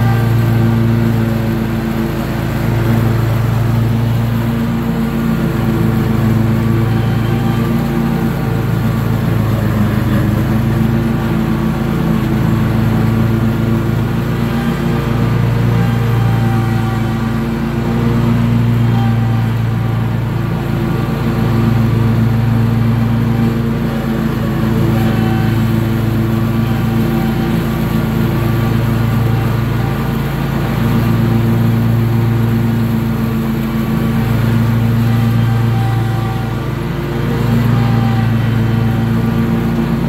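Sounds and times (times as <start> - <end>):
riding mower engine running: 0.0 - 40.0.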